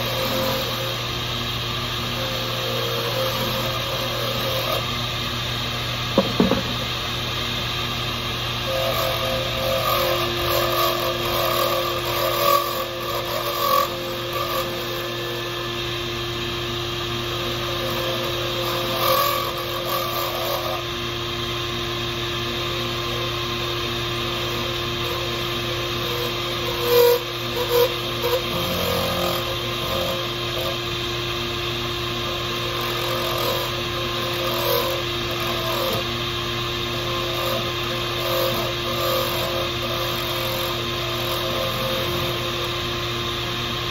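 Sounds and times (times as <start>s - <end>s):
scraping on lathe: 0.0s - 5.0s, 6.2s - 7.0s, 8.6s - 15.9s, 17.2s - 20.9s, 22.3s - 43.4s
lathe motor humming: 0.0s - 43.9s.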